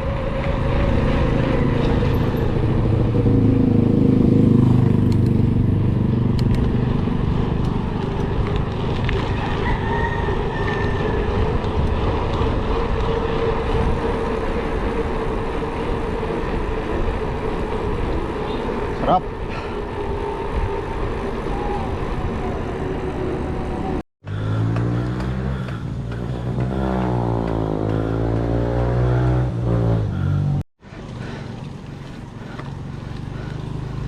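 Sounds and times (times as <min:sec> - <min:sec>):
road rumble: 0:00.0 - 0:34.0
vehicle engine passing: 0:00.0 - 0:34.0
wind: 0:00.0 - 0:34.0.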